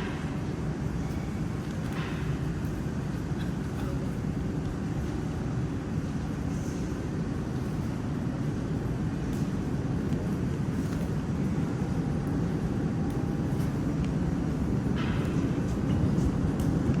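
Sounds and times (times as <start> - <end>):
metro train rumbling: 0.0 - 9.1, 9.8 - 17.0.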